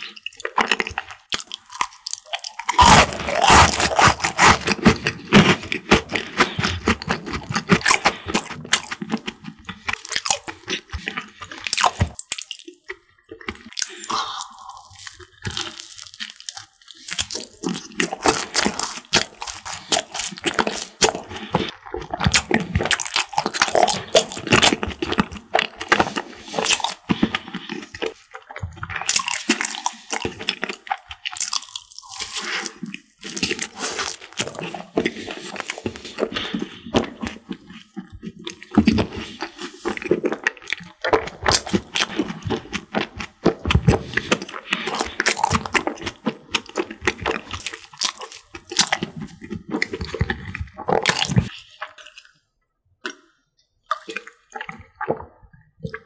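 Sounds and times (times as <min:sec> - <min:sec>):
wet squishing: 0:00.0 - 0:52.4, 0:53.0 - 0:56.0
crunching and chewing: 0:00.0 - 0:56.0.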